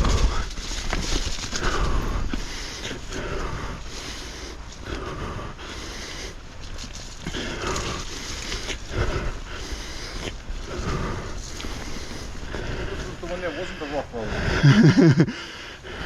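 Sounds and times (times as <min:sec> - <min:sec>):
person breathing hard: 0:00.0 - 0:16.0
steady low rumble: 0:00.0 - 0:16.0.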